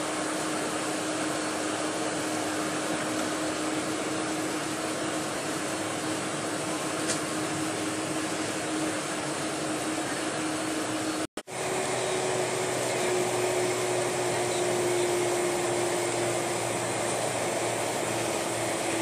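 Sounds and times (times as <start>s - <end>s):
airplane cabin rushing hum: 0.0s - 19.0s
jet engine whine: 0.0s - 19.0s.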